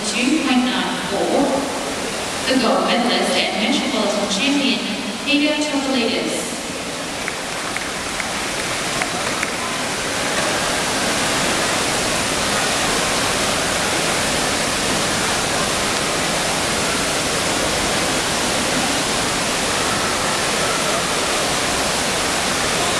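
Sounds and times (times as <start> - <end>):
swimming pool hall rushing noise: 0.0 - 22.9.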